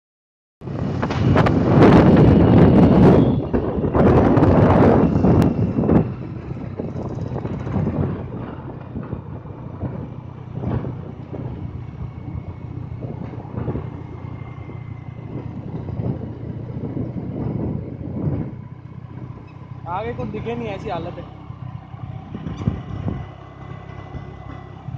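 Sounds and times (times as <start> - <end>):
road noise: 0.6 - 24.9
vehicle engine hum: 0.6 - 24.9
wind buffeting microphone: 0.6 - 24.9.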